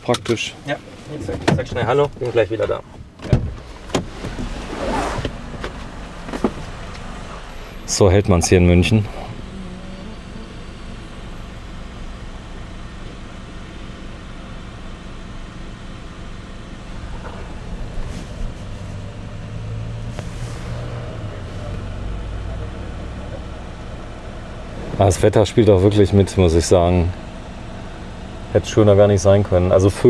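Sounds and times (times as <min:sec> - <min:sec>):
vehicle engine idling: 0:00.0 - 0:30.0.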